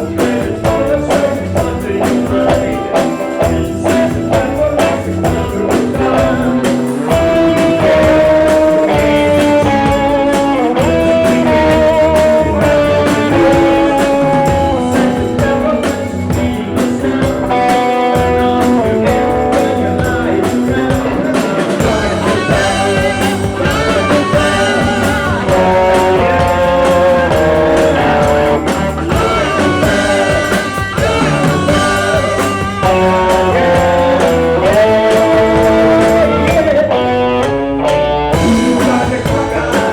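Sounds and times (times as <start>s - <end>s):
psychedelic rock music: 0.0s - 39.9s.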